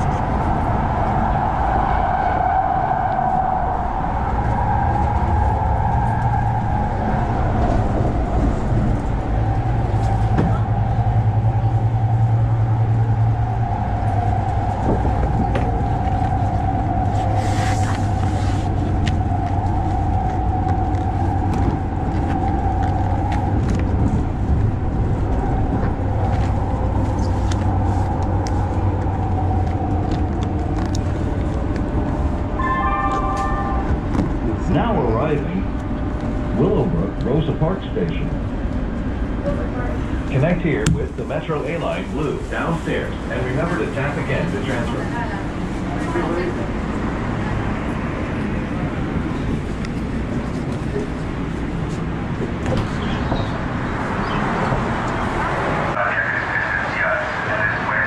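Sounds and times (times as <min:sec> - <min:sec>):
constant whine: 0:00.0 - 0:58.0
train wheels rumbling on track: 0:00.0 - 0:58.0.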